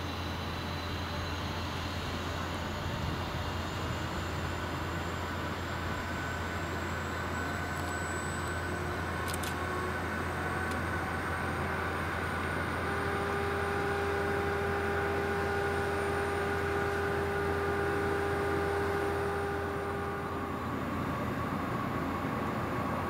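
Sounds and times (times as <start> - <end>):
propeller plane engine droning: 0.0 - 23.0.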